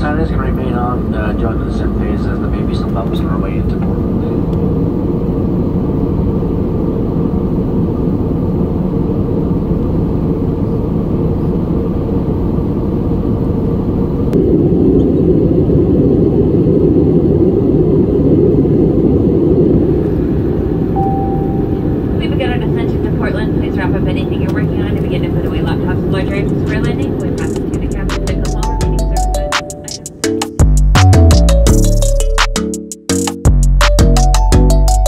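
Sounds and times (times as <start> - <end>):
airplane cabin engine drone: 0.0 - 30.4.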